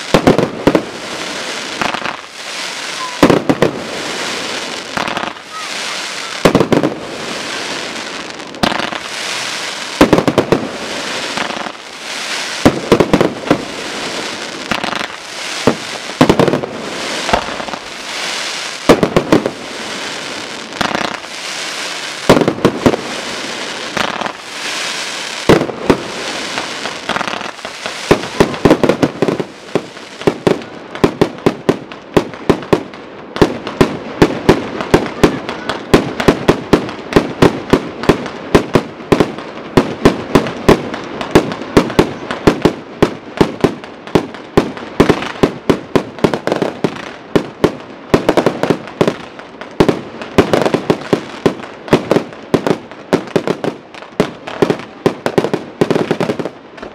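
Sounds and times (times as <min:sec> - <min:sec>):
fireworks crackling: 0:00.0 - 0:56.9.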